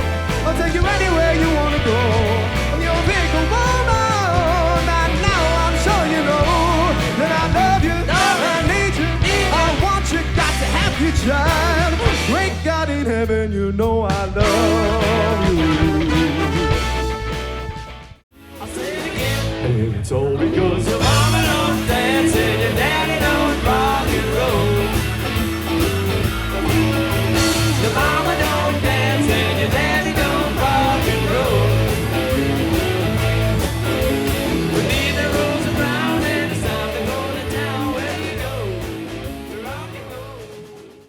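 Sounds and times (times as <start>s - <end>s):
live rock band instrumental: 0.0s - 12.8s, 14.1s - 41.0s.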